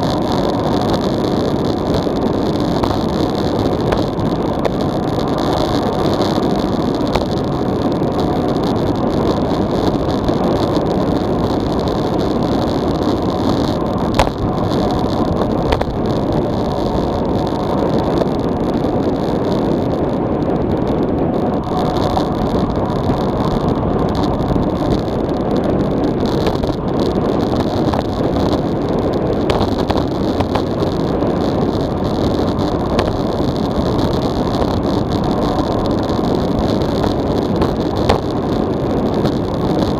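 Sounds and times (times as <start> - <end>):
rushing wind noise: 0.0 - 39.9.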